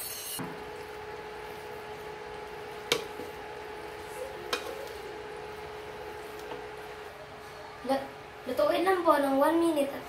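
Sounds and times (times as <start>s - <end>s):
steady hum: 0.4s - 10.0s.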